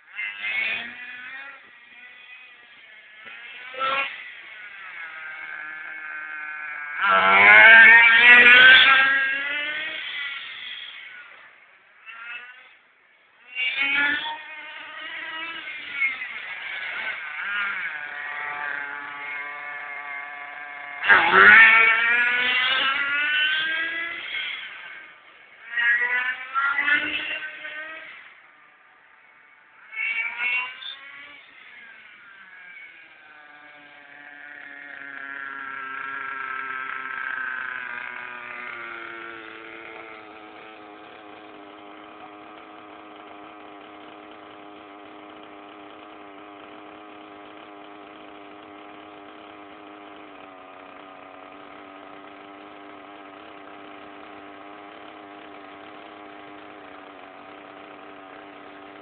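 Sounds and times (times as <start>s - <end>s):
small nitro engine revving and idling: 0.0s - 59.0s.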